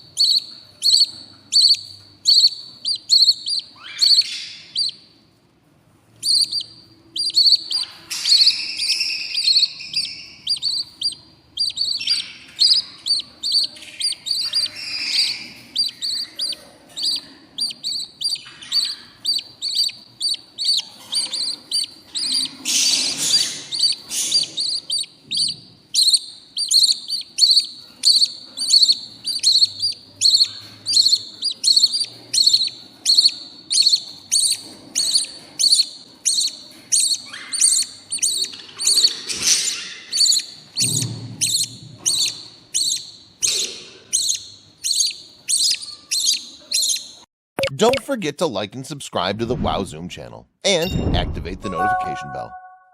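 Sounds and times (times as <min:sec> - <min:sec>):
budgerigar chicks chirping: 0:00.0 - 0:05.2, 0:06.1 - 0:48.1.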